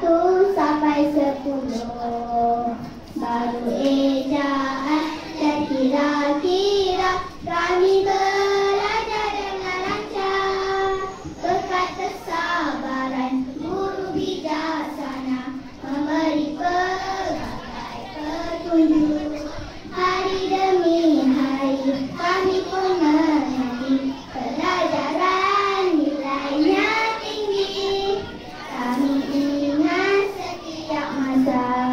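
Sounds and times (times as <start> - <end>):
children singing in unison: 0.0 - 31.9.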